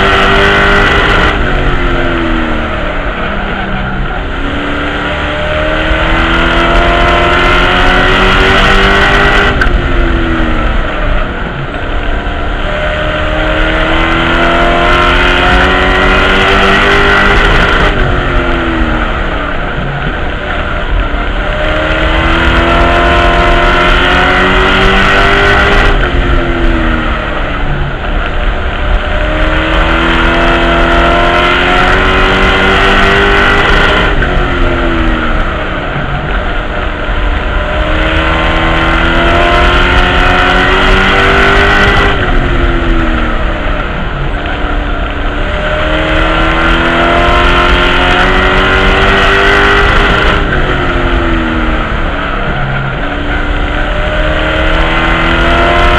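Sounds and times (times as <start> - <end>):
race truck engine revving: 0.0 - 55.9.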